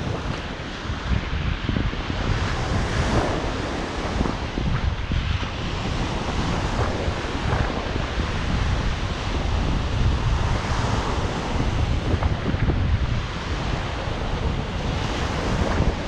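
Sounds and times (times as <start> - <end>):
ocean surf on beach: 0.0 - 16.0
wind buffeting microphone: 0.0 - 16.0.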